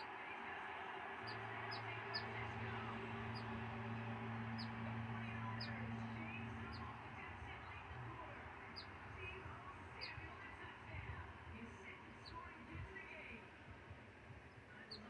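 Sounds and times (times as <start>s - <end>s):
low steady hum: 0.0s - 15.0s
small birds chirping: 1.2s - 12.8s, 14.4s - 15.0s.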